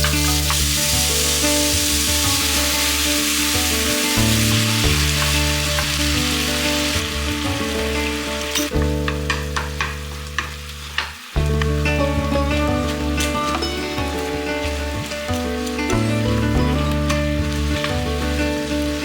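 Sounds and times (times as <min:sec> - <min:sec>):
food sizzling in a frying pan: 0:00.0 - 0:19.0
soft background music: 0:00.0 - 0:19.0.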